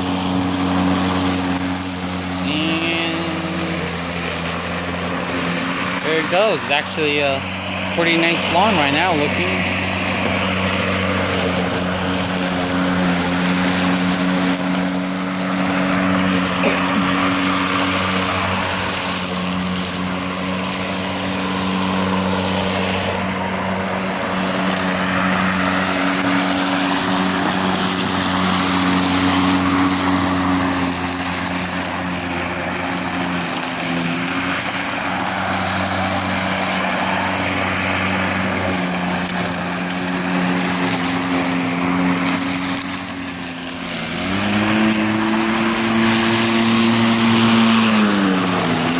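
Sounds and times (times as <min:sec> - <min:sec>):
constant rushing noise: 0:00.0 - 0:48.9
lawn mower humming: 0:00.0 - 0:48.9.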